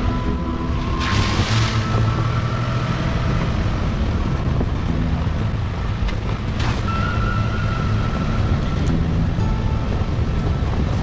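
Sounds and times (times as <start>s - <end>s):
engine hum: 0.0s - 11.0s
rumbling road noise: 0.0s - 11.0s.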